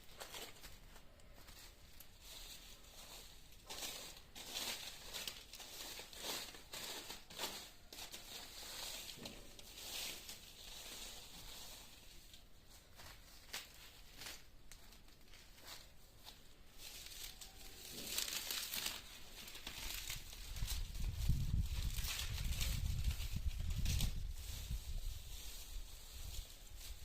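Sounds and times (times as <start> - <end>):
dry grass rustling and crackling: 0.0 - 27.0.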